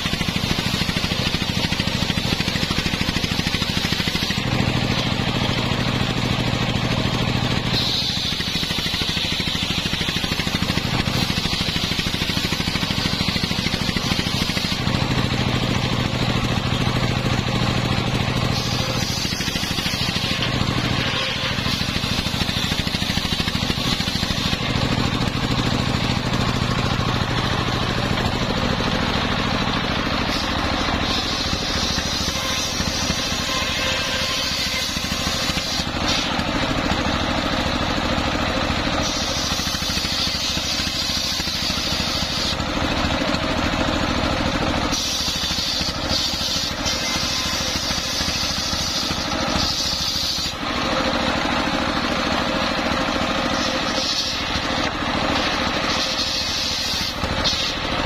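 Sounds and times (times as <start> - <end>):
circular saw cutting log: 0.0 - 58.0
diesel engine running: 0.0 - 58.0.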